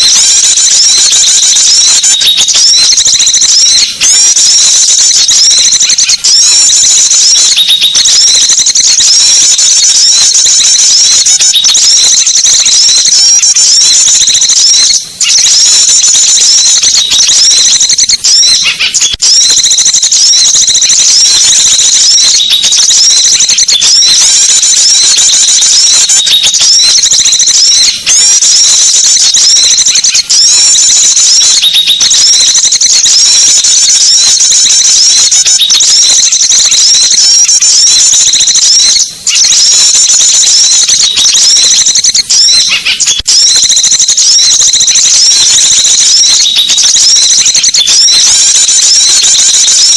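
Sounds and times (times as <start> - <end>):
chorus of bird chirps: 0.0 - 49.9.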